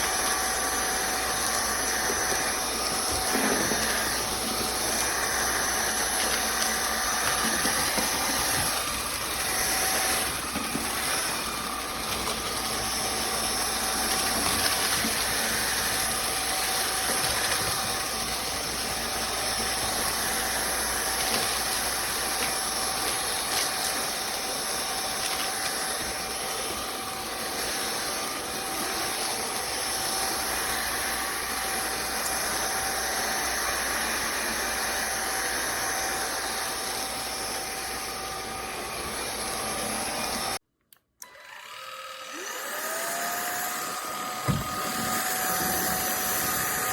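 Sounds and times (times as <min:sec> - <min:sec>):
stick vacuum running: 0:00.0 - 0:40.6, 0:41.2 - 0:46.9.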